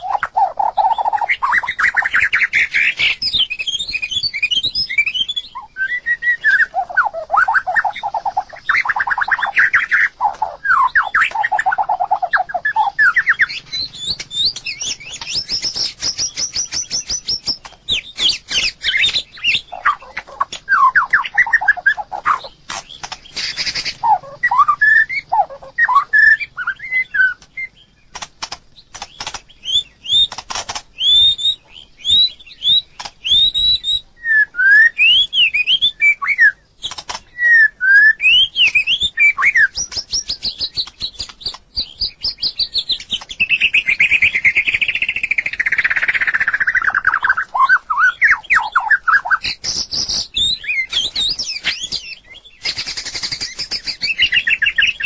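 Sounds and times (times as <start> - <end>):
bird singing trills: 0.0 - 55.0.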